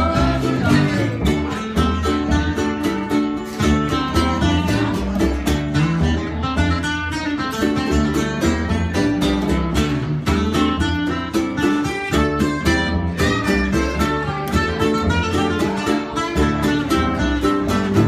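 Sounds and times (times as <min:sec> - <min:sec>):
bass line: 0:00.0 - 0:18.0
plucked guitar: 0:00.0 - 0:18.0.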